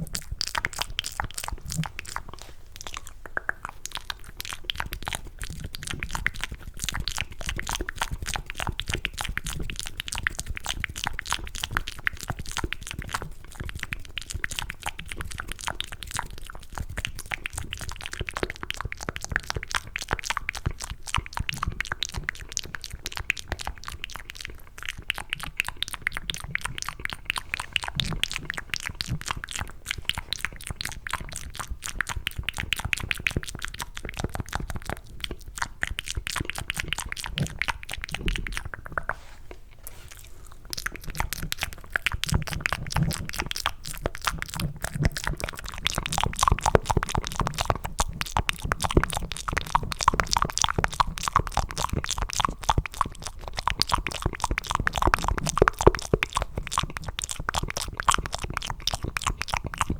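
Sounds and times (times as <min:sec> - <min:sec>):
wet mouth clicking and smacking: 0:00.0 - 0:59.9.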